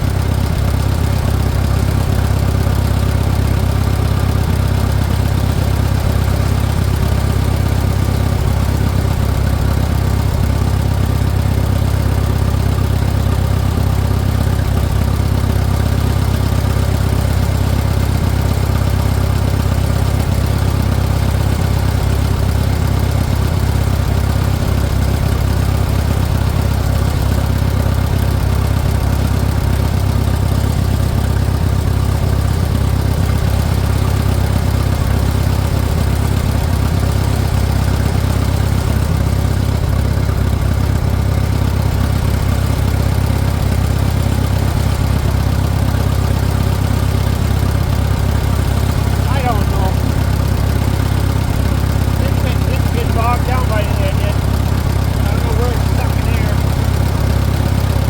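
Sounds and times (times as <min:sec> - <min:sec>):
tractor engine idling: 0:00.0 - 0:58.0.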